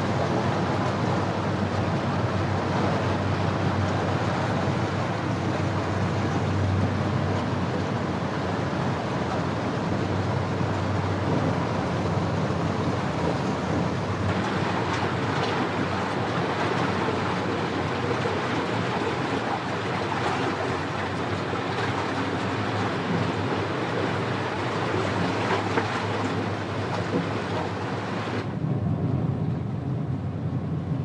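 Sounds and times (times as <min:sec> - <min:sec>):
river water rushing: 0:00.0 - 0:28.6.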